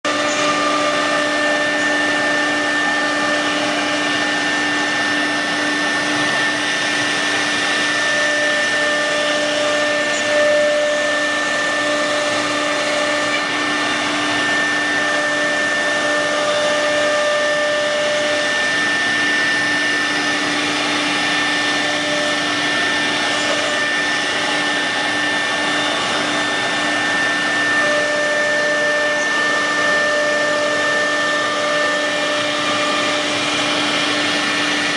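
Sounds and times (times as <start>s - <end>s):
cutter and dust extraction rushing: 0.0s - 34.9s
router spindle whine: 0.0s - 34.9s.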